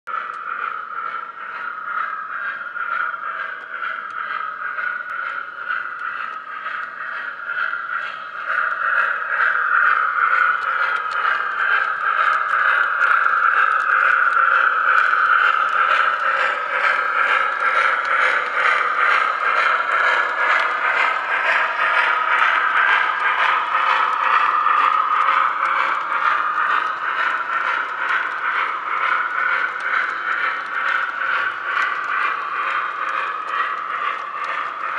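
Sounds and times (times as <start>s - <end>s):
model steam locomotive chuffing: 0.1s - 34.9s
model train cars rattling on track: 0.1s - 34.9s.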